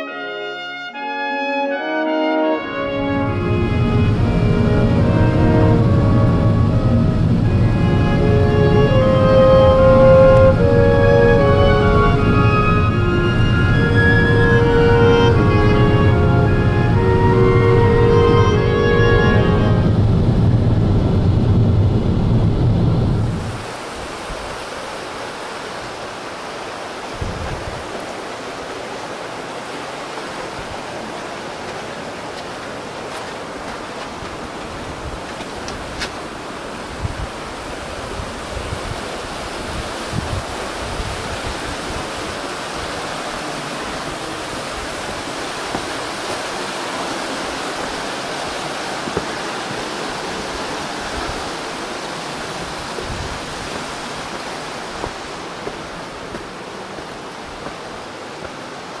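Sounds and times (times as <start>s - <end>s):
river rushing over rocks: 1.8s - 21.5s, 22.5s - 59.0s.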